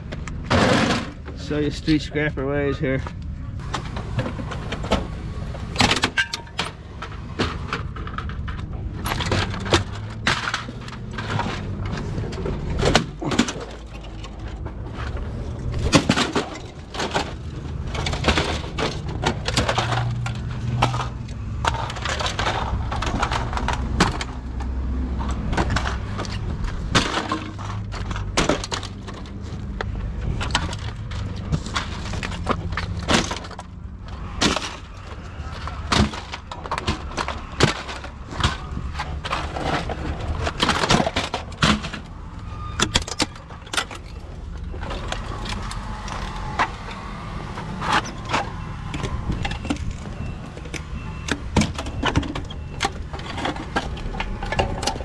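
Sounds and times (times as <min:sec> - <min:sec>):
plastic pieces clattering: 0:03.6 - 0:47.0, 0:47.6 - 0:55.0.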